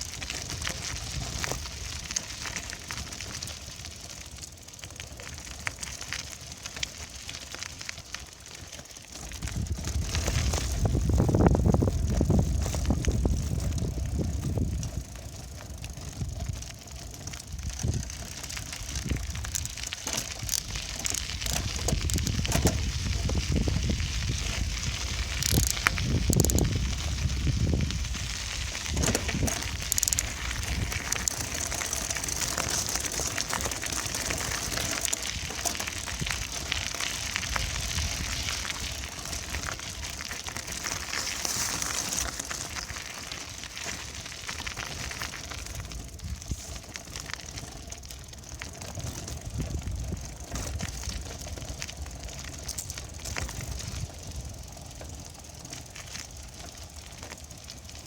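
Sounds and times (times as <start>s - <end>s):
bicycle clicks and rattles: 0.0s - 58.0s
bicycle tyres rolling: 0.0s - 58.0s.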